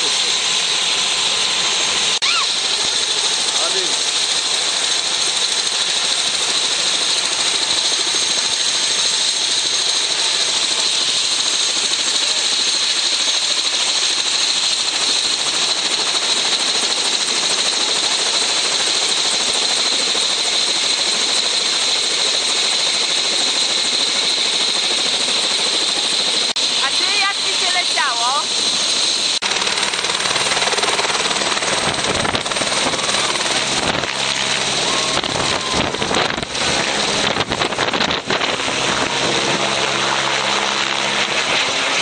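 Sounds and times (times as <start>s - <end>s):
helicopter turbine rush and whine: 0.0s - 42.0s.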